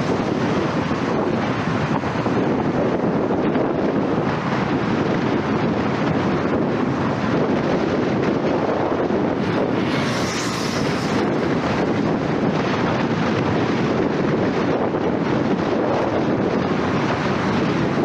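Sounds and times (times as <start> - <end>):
car road and wind noise: 0.0 - 18.0
wind buffeting microphone: 0.0 - 18.0.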